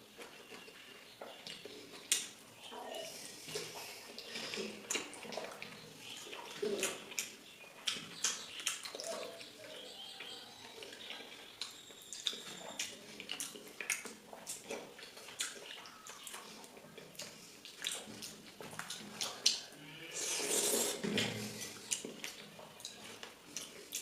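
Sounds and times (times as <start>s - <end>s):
wet chewing and mouth smacking: 0.0s - 24.0s.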